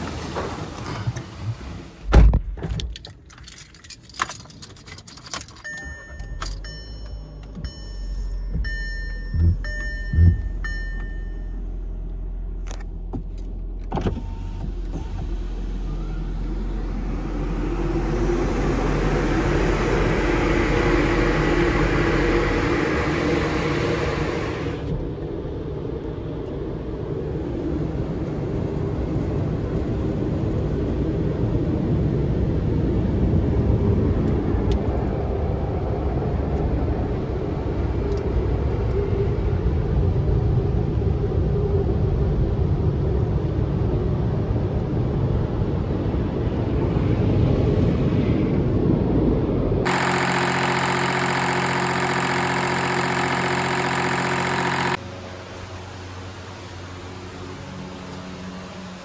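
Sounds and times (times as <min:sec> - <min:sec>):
low mechanical rumble: 0:05.6 - 0:48.2, 0:48.8 - 0:57.8.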